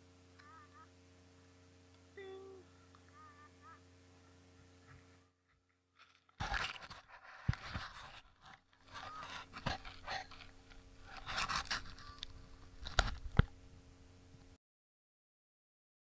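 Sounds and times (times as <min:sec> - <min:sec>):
soil and grass rustling: 0:00.5 - 0:13.8.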